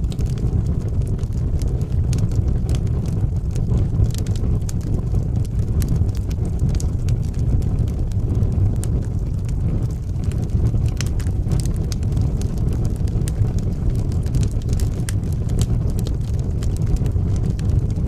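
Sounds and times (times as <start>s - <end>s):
fire crackling and popping: 0.0s - 18.0s
fire roaring in fireplace: 0.0s - 18.0s.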